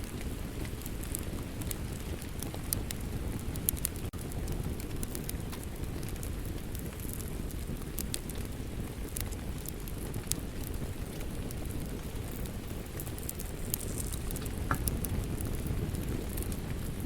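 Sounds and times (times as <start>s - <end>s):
fire popping and snapping: 0.0s - 17.0s
low rumble of flames: 0.0s - 17.0s.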